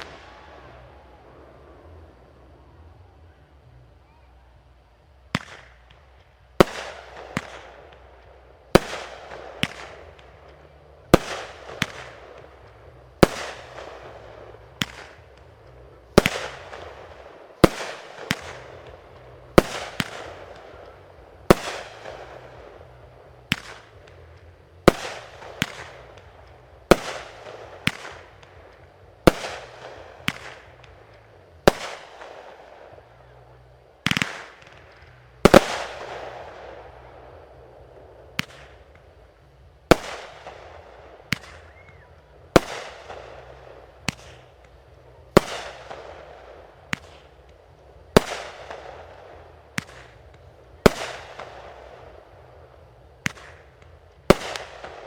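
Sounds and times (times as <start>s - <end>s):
fireworks bursting with hiss: 0.0s - 3.4s, 5.1s - 55.0s.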